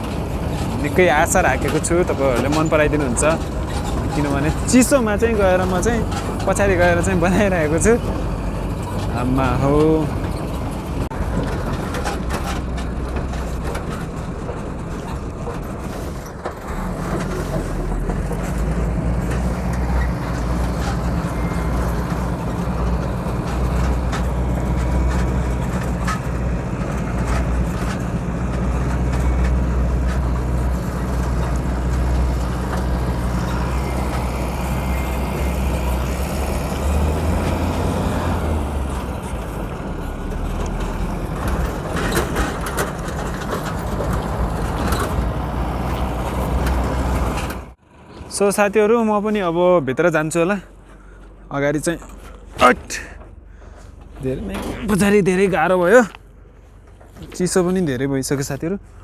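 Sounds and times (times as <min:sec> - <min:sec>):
knocks and rattles: 0:00.0 - 0:47.8
truck engine running: 0:00.0 - 0:59.0.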